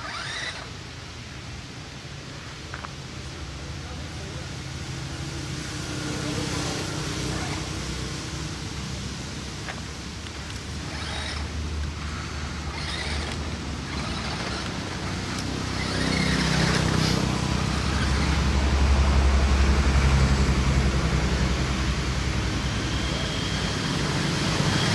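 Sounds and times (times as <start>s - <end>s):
low engine hum: 0.0s - 24.9s.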